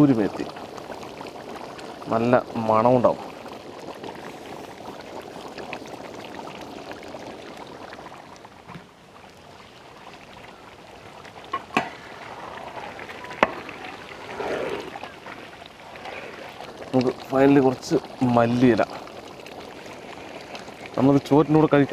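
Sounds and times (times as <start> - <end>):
thick gravy bubbling in a pot: 0.0 - 21.9.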